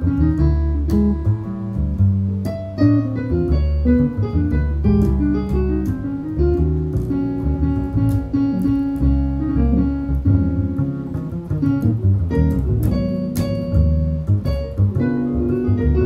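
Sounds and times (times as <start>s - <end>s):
jazz trio playing: 0.0s - 16.0s
piano: 0.0s - 16.0s.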